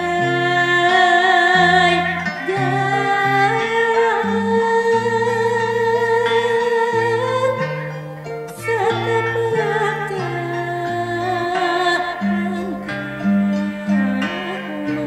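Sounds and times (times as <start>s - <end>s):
person singing wavering line: 0.0s - 15.0s
plucked zither notes: 0.0s - 15.0s.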